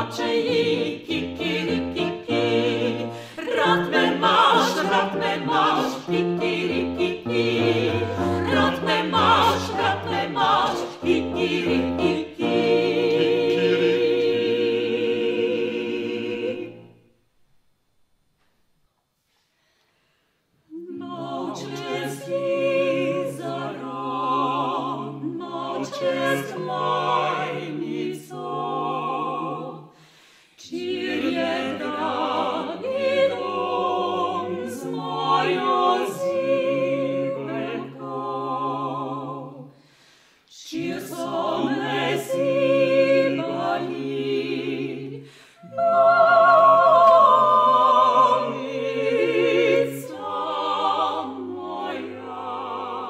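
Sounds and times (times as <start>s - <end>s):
women singing operatically: 0.0s - 16.9s, 20.7s - 29.9s, 30.6s - 39.7s, 40.5s - 53.0s.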